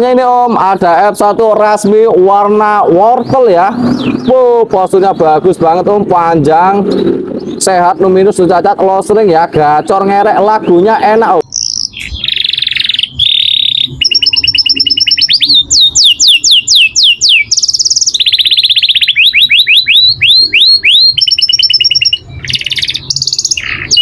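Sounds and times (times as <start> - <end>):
canary singing trills: 1.6 - 8.1, 8.8 - 24.0.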